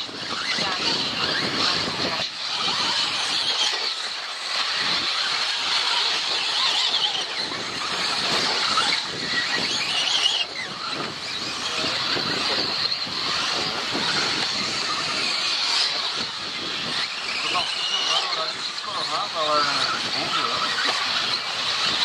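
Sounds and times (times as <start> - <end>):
toy car motors whining: 0.0 - 22.0.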